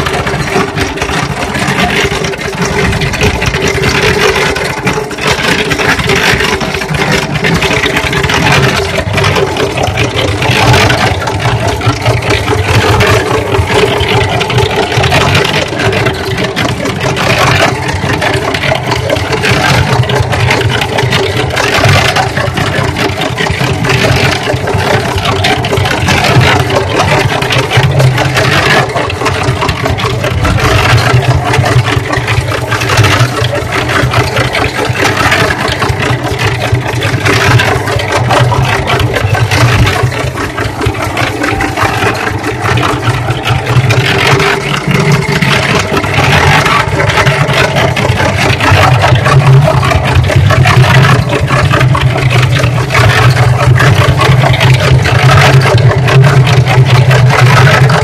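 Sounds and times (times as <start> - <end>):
cement mixer droning: 0.0 - 58.0.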